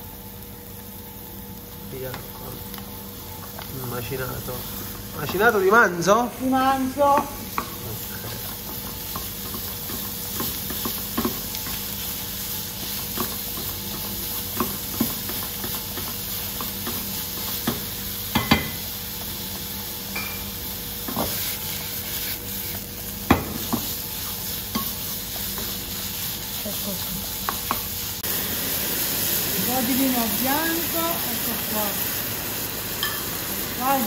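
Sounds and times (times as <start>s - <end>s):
meat sizzling in a pan: 0.0s - 34.0s.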